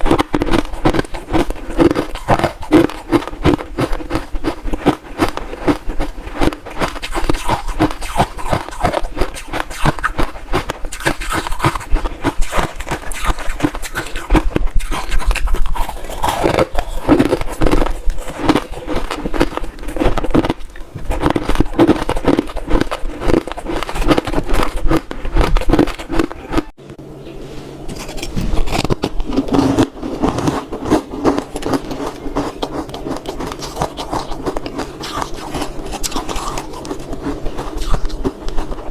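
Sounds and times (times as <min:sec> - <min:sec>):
ice being chewed: 0:00.0 - 0:26.7, 0:27.9 - 0:38.9.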